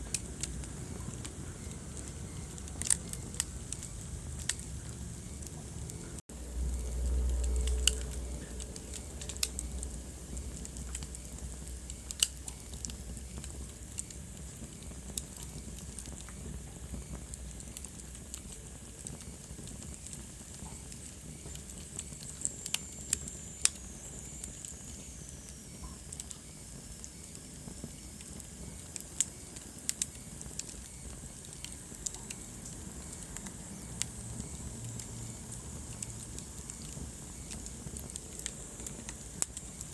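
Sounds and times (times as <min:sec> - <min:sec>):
fire rumble and hiss: 0:00.0 - 0:39.9
logs crackling and popping: 0:00.0 - 0:39.9.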